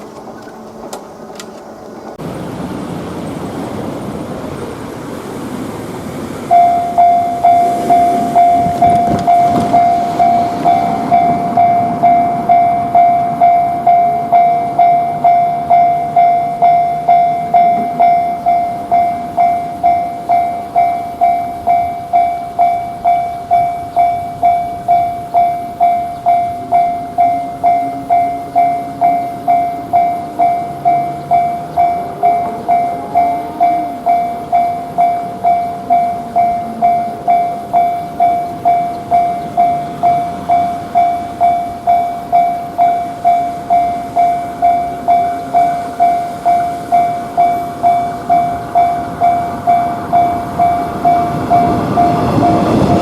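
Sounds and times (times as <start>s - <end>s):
level crossing warning bell: 2.2s - 53.0s.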